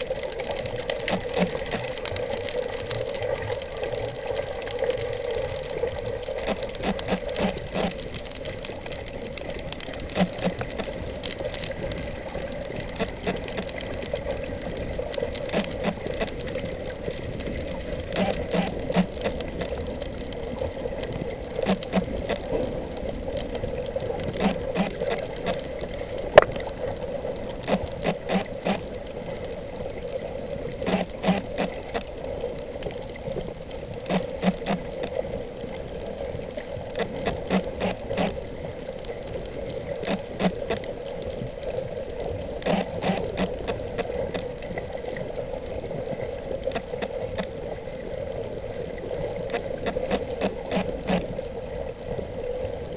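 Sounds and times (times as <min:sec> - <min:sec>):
clicks and rattles underwater: 0:00.0 - 0:52.9
underwater hum and hiss: 0:00.0 - 0:52.9.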